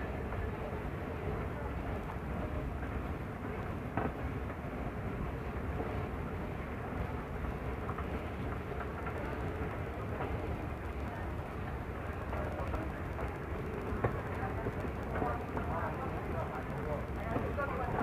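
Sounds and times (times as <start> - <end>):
moving walkway rumbling: 0.0 - 18.0.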